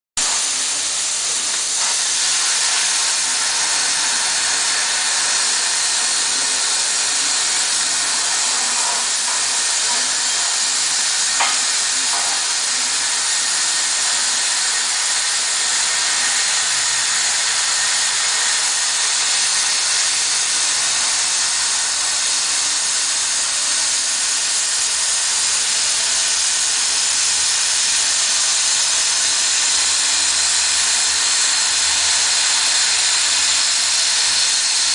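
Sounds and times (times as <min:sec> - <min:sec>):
cutting torch hissing: 0:00.2 - 0:34.9.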